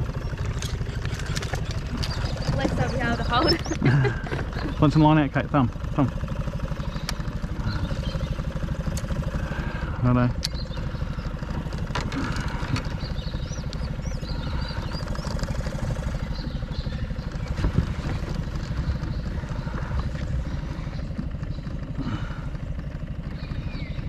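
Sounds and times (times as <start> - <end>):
outboard motor idling: 0.0 - 24.0.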